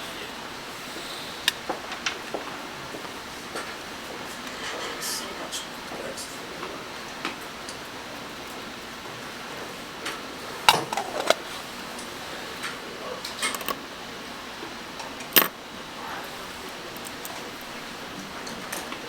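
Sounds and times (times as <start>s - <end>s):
steady fan-like hiss: 0.0s - 19.0s.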